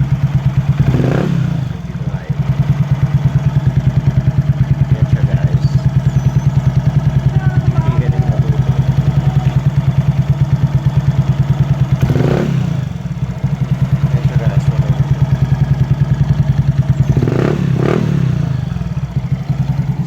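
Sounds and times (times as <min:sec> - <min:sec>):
scooter engine idling: 0:00.0 - 0:20.0
scooter engine revving: 0:00.0 - 0:20.0.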